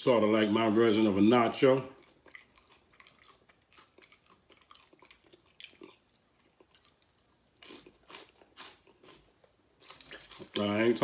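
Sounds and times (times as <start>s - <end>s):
chewing crunchy chips: 1.8s - 11.0s.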